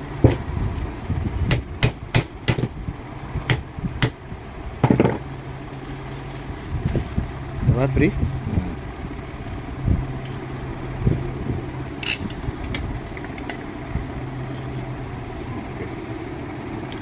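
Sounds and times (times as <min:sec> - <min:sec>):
mechanical background hum: 0:00.0 - 0:17.0.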